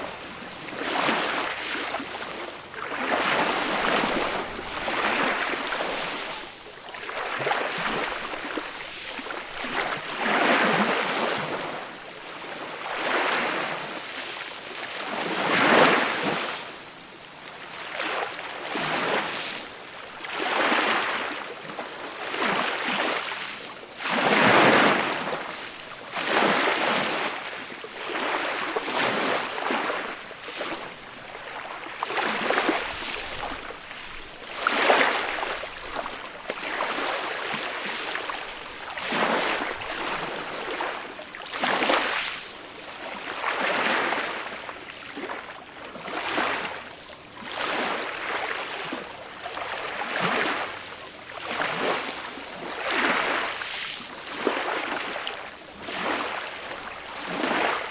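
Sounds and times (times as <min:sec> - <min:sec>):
gentle sea waves washing up beach: 0:00.0 - 0:57.9.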